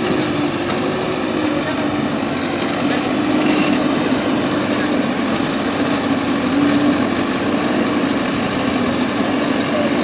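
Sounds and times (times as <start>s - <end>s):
diesel engine running steadily: 0.0s - 10.0s.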